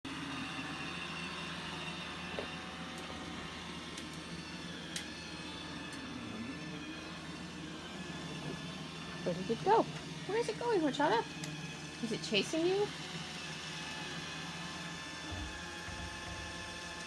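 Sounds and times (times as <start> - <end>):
robot vacuum whirring: 0.1 - 17.0.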